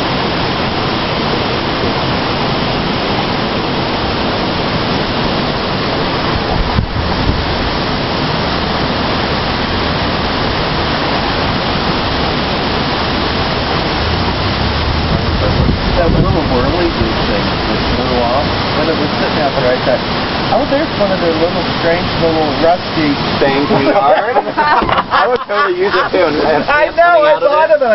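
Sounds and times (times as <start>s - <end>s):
strong storm wind: 0.0s - 27.9s.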